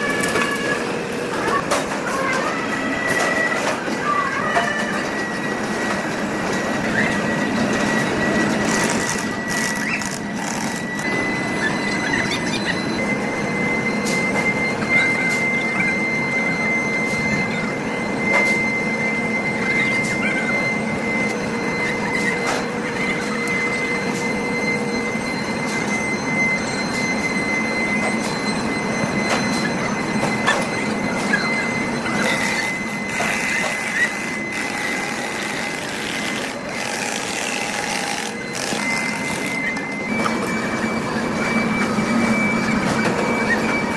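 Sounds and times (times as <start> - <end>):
machinery high-pitched whine: 0.0 - 43.9.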